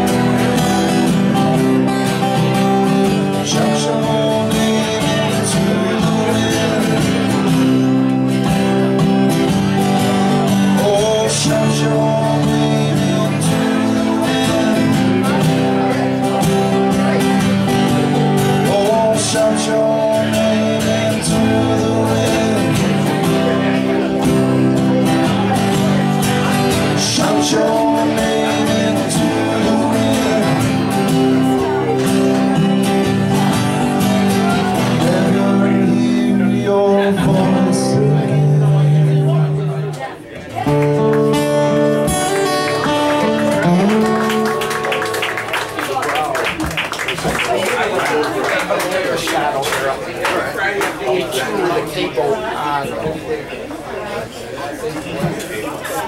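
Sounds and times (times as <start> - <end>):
acoustic guitar strummed and picked: 0.0 - 50.6.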